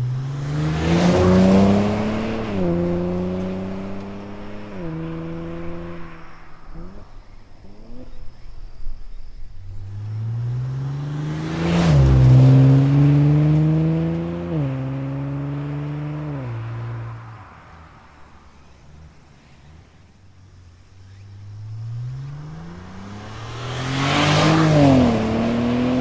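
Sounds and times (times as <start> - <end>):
car exhaust accelerating and shifting: 0.0 - 26.0.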